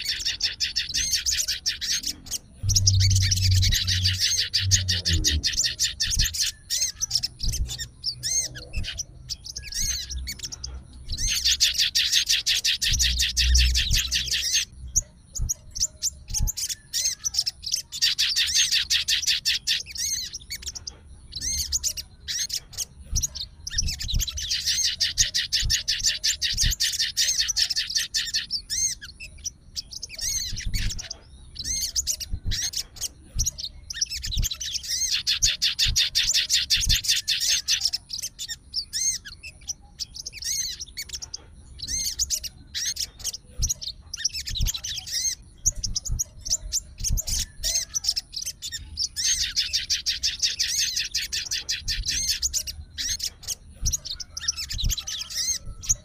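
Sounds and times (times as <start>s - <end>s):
bird chirps: 0.0s - 56.0s
bird singing high-pitched trills: 0.0s - 56.0s.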